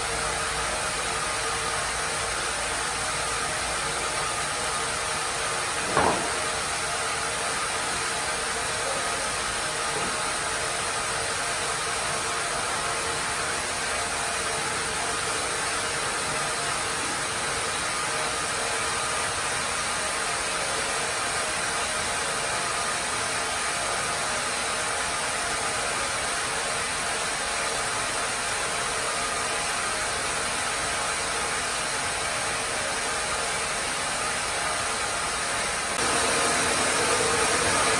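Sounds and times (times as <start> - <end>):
sawmill saw and motors running: 0.0 - 37.9.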